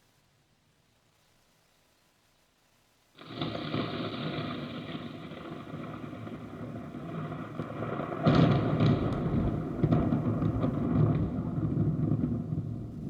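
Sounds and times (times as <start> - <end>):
rain and wind on microphone: 0.9 - 13.0.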